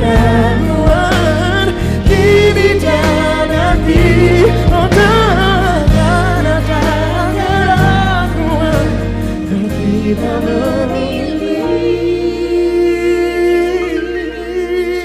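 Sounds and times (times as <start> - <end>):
live pop band: 0.0 - 15.0.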